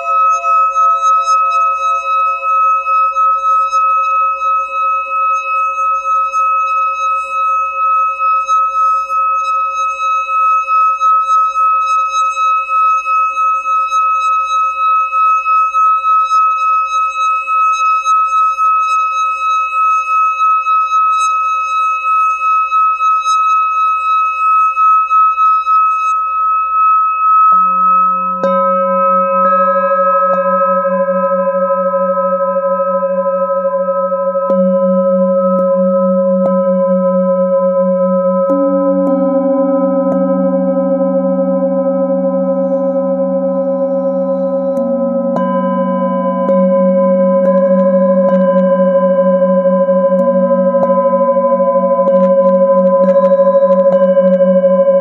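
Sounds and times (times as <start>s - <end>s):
struck bowls lower ringing: 0.0s - 20.6s, 23.6s - 55.0s
singing bowl ringing tone: 0.0s - 55.0s.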